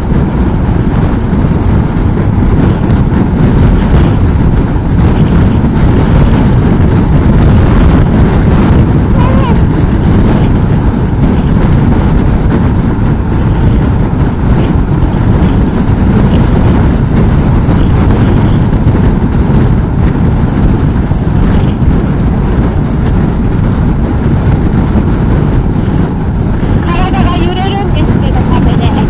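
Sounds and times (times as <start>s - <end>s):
road noise: 0.0s - 29.0s
wind buffeting microphone: 0.0s - 29.0s.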